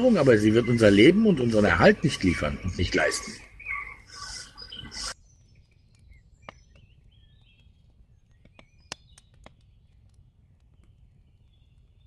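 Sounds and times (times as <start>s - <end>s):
birds chirping softly: 0.0s - 12.0s.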